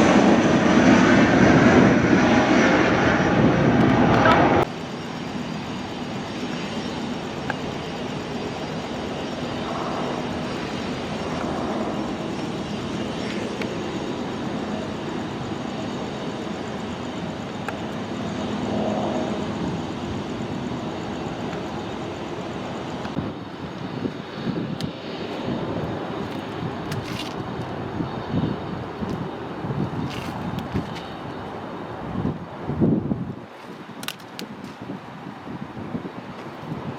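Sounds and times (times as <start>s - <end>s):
distant jet engines rumbling: 0.0s - 36.9s.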